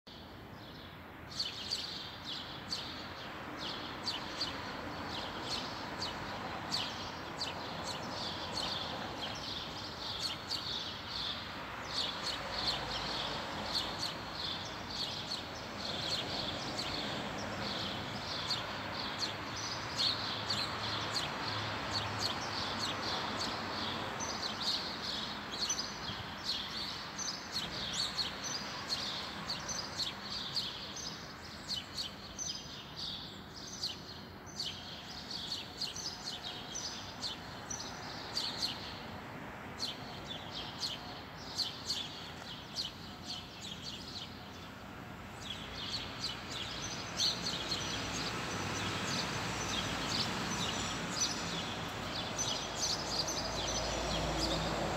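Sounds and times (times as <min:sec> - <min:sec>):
songbirds chirping: 0:00.1 - 0:54.9.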